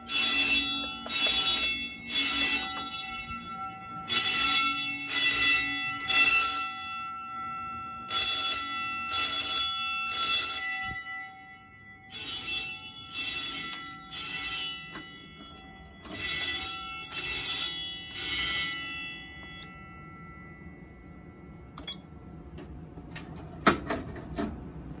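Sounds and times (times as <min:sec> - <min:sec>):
fire alarm bell ringing: 0:00.0 - 0:24.0.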